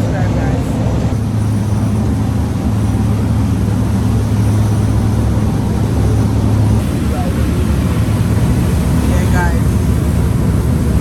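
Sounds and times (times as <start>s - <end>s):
boat engines droning: 0.0s - 11.0s
even rushing noise: 0.0s - 11.0s.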